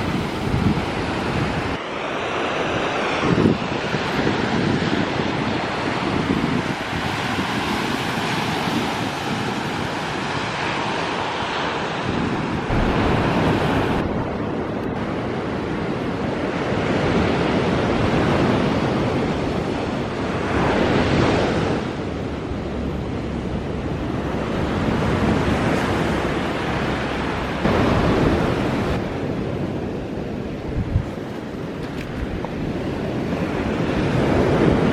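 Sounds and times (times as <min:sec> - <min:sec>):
surf washing onto beach: 0:00.0 - 0:34.9.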